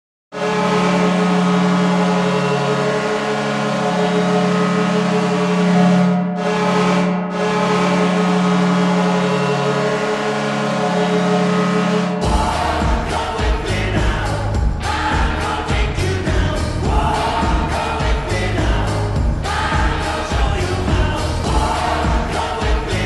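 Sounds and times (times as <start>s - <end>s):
goal horn blast: 0.4s - 23.0s.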